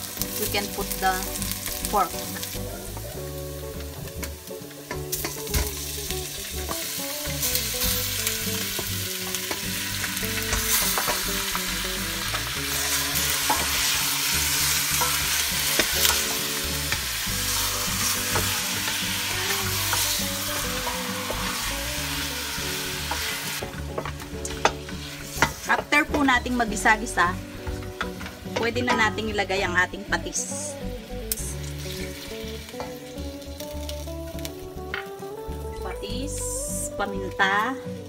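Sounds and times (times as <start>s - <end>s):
meat sizzling in hot oil: 0.0s - 28.6s, 30.9s - 34.9s.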